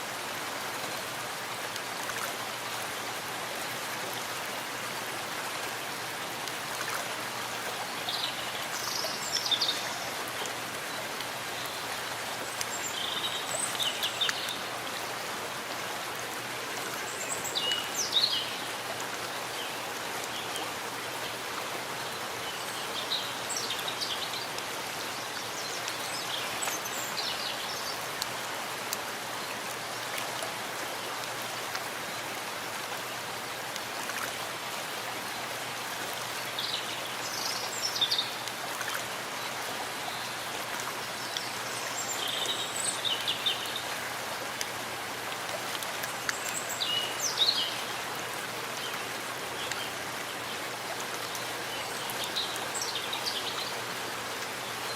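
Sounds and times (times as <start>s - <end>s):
rain falling in forest: 0.0s - 54.9s.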